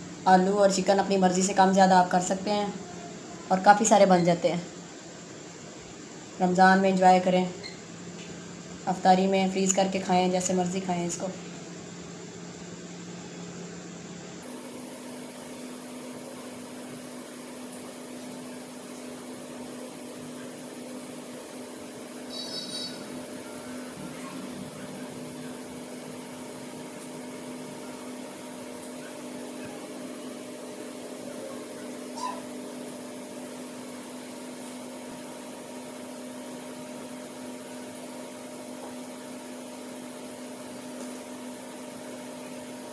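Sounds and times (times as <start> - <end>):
mechanical hum with hiss: 0.0 - 42.9.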